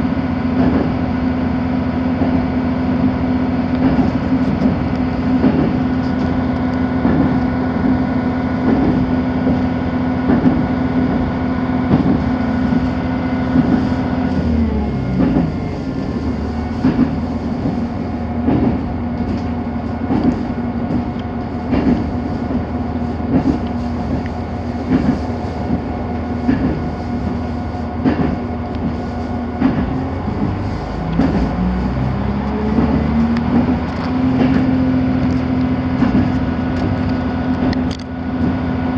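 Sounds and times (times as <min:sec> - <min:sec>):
railbus drive hum: 0:00.0 - 0:38.9.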